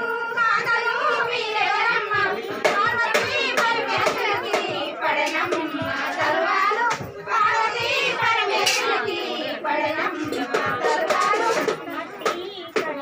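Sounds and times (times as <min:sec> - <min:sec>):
women singing together: 0:00.0 - 0:13.0.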